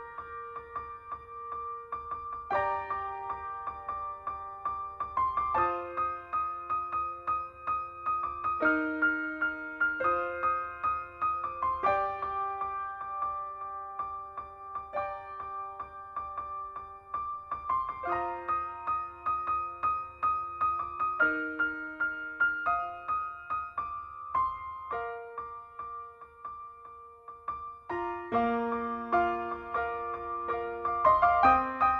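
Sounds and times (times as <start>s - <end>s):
gentle piano-like keyboard music: 0.0s - 31.9s.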